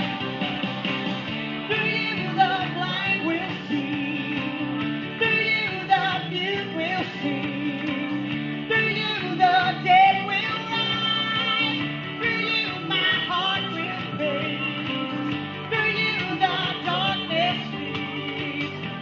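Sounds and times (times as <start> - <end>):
music accompaniment: 0.0 - 19.0
woman singing worship song: 1.7 - 19.0.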